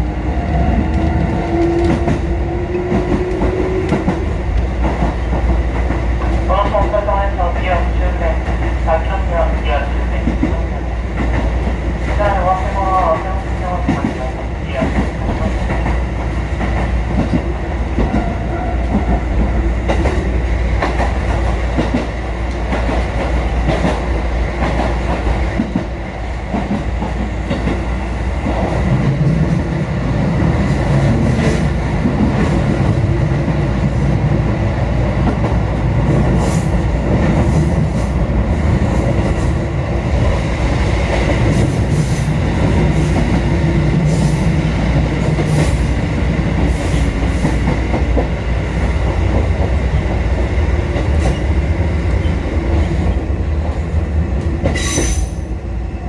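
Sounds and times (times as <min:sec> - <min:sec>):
electric train running rumble: 0:00.0 - 0:56.0.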